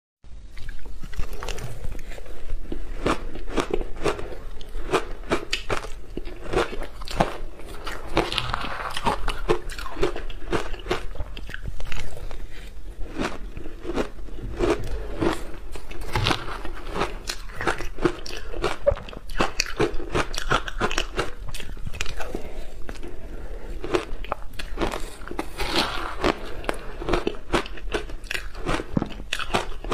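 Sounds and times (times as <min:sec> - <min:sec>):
ice crunching while chewed: 0:00.6 - 0:29.9.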